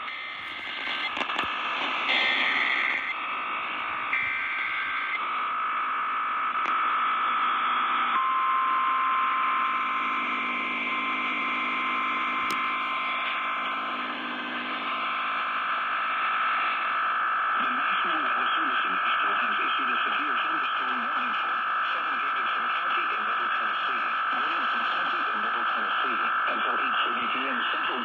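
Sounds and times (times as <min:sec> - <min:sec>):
radio hiss and static: 0:00.0 - 0:08.2, 0:09.4 - 0:28.0.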